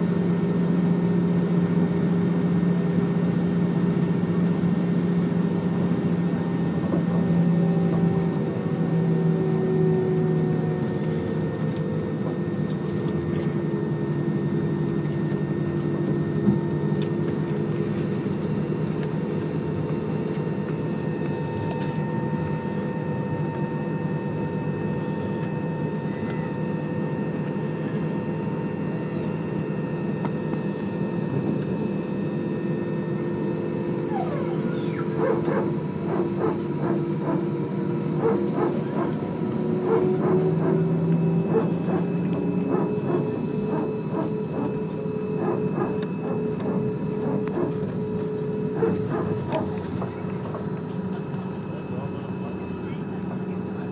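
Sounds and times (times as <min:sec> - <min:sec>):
jet engine hum: 0:00.0 - 0:53.9.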